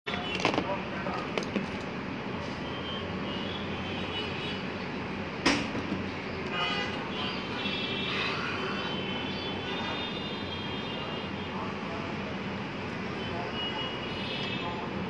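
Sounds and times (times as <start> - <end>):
steady background noise: 0.1 - 15.0.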